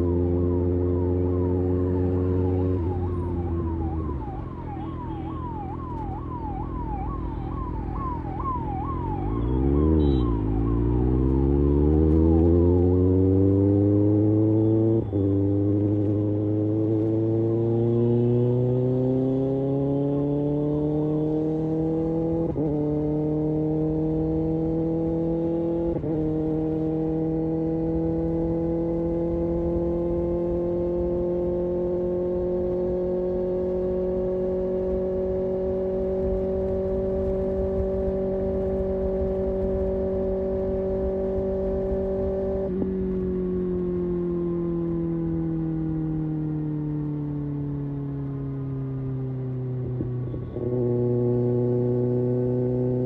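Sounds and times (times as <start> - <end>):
motorcycle engine accelerating: 0.0 - 4.8, 5.4 - 53.0.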